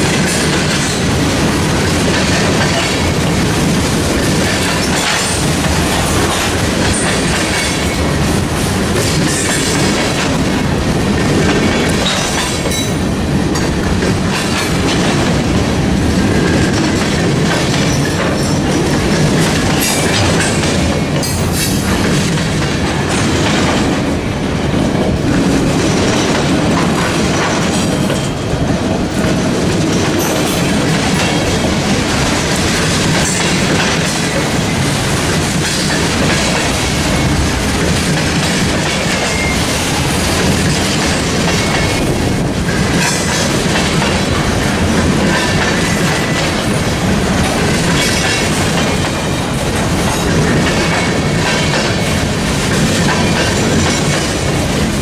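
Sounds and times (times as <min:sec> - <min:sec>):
wheels clicking over rail joints: 0:00.0 - 0:24.1, 0:25.2 - 0:55.0
train rolling past: 0:00.0 - 0:55.0.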